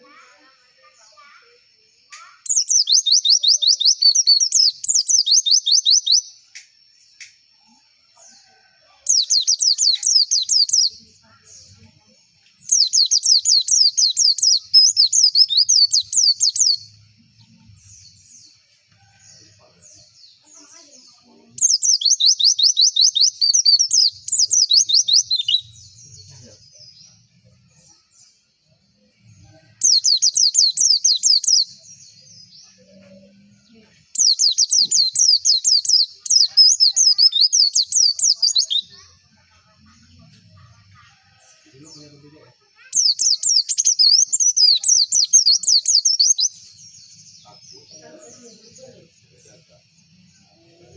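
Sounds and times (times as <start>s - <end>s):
bird singing high chirps: 0.0s - 50.9s.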